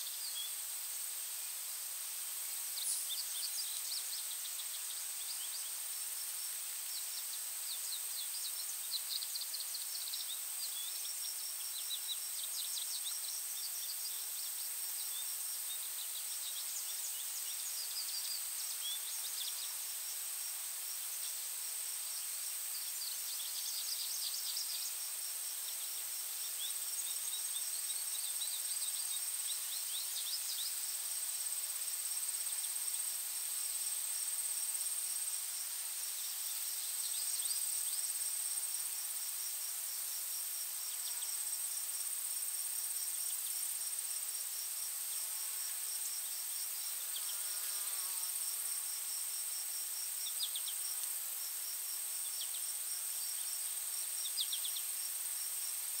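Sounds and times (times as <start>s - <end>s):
soft hiss: 0.0s - 56.0s.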